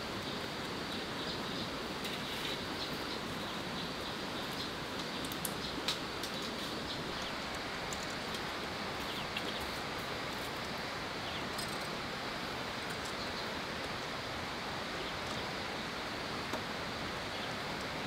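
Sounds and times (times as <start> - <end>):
forest background noise: 0.0 - 18.0.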